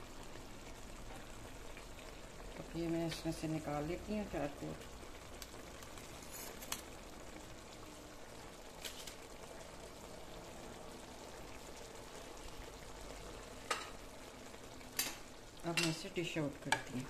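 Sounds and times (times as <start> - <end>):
sauce bubbling in a wok: 0.0 - 17.0.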